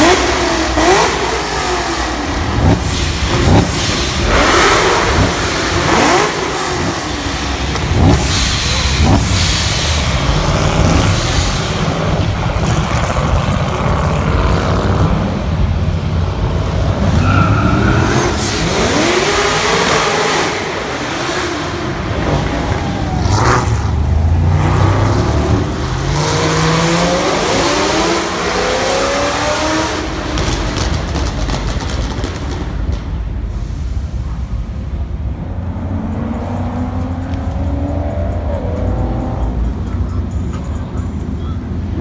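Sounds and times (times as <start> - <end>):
car engines revving: 0.0 - 42.0
road noise: 0.0 - 42.0.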